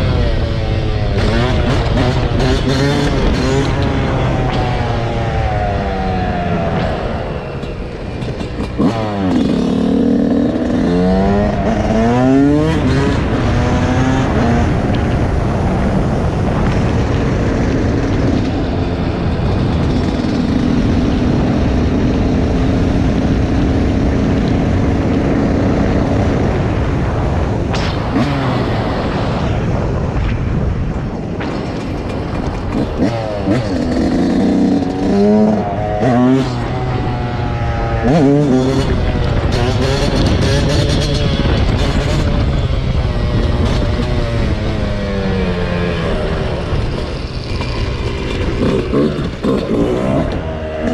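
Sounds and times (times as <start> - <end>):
dirt bike engine revving: 0.0 - 29.5, 31.4 - 50.9.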